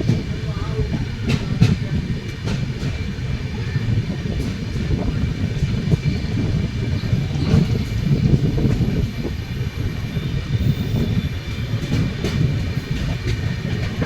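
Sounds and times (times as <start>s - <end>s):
train coaches rumbling past: 0.0s - 14.0s
wheels clacking on rail joints: 0.0s - 14.0s.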